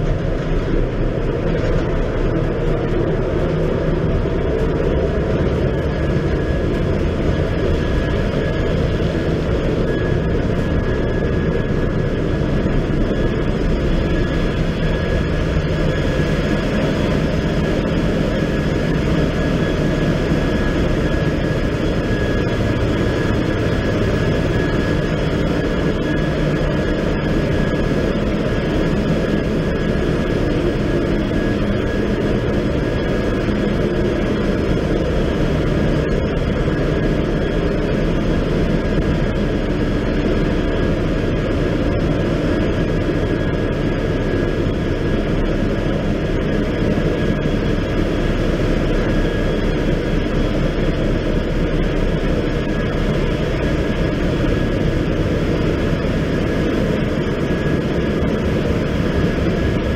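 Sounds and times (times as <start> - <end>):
engine room machinery rumble: 0.0 - 59.9
thin steady whine: 0.0 - 59.9.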